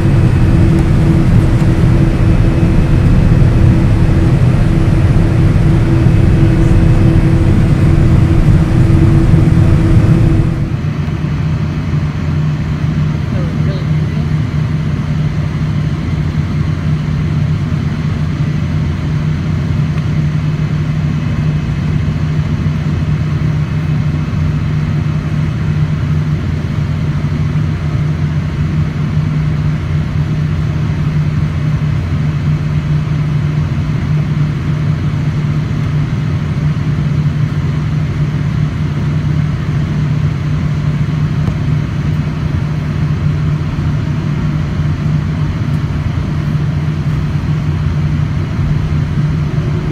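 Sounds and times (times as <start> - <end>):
jet engines humming in cabin: 0.0 - 49.9.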